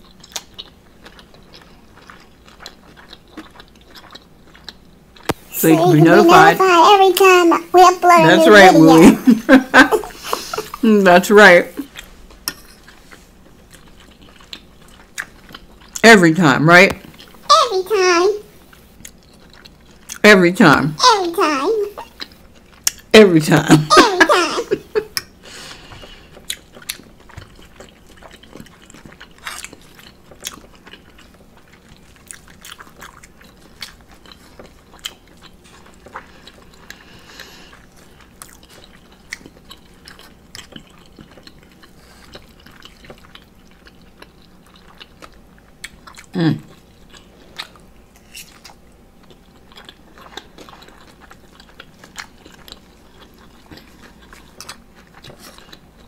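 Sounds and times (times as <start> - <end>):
person chewing food: 0.0 - 10.9, 11.8 - 16.0, 17.0 - 17.5, 18.5 - 20.2, 21.8 - 23.1, 23.8 - 56.0.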